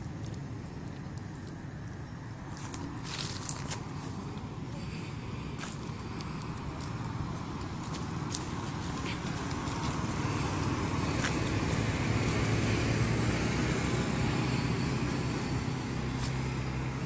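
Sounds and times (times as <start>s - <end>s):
vehicle engine passing: 2.4s - 17.0s.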